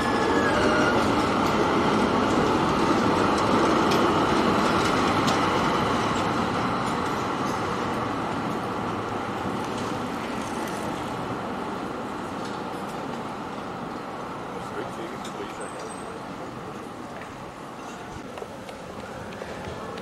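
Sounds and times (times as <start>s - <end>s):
trams rumbling on rails: 0.0s - 20.0s.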